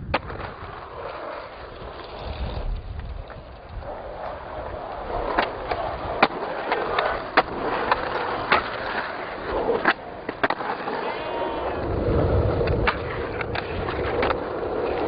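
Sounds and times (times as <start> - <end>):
skateboards clacking on ground: 0.0 - 15.0
skateboards rolling on asphalt: 0.0 - 15.0.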